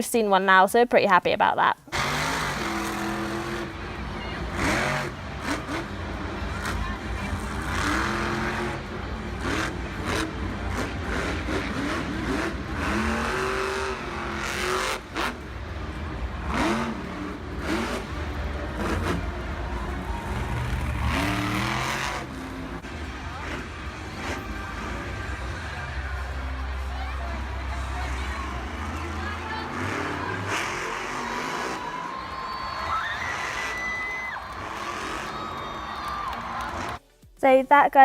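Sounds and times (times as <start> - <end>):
truck engines revving: 1.9 - 37.0.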